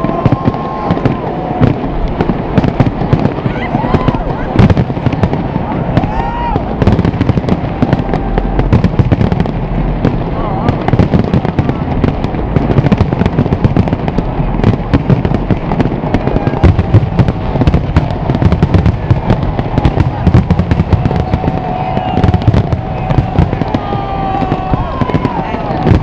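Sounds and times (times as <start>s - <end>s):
deep rumble: 0.0s - 26.0s
fireworks bangs and crackles: 0.0s - 26.0s.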